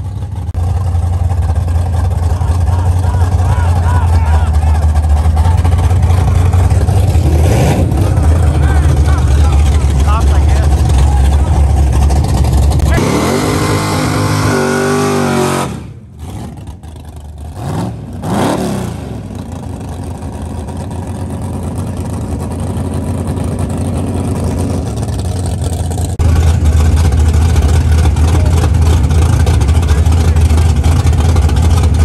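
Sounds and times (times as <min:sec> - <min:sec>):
car engine revving: 0:00.0 - 0:32.0
deep engine rumble: 0:00.0 - 0:32.0.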